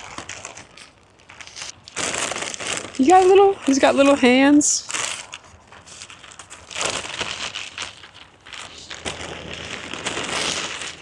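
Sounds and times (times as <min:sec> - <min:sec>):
fabric crinkling and rustling: 0:00.0 - 0:11.0.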